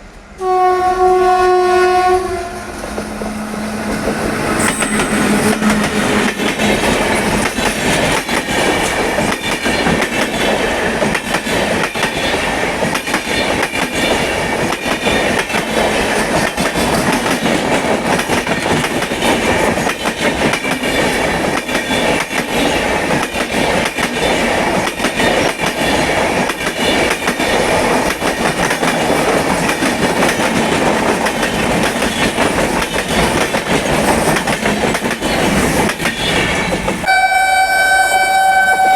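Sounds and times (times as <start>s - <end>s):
train passing at speed: 0.0s - 38.9s.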